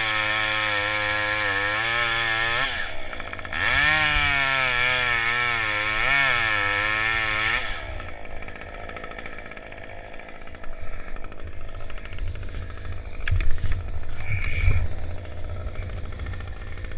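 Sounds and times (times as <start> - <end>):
chainsaw running: 0.0 - 16.9.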